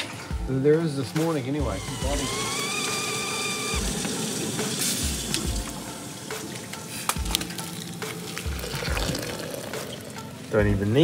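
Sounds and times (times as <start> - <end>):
boiling water pouring: 1.8 - 10.6.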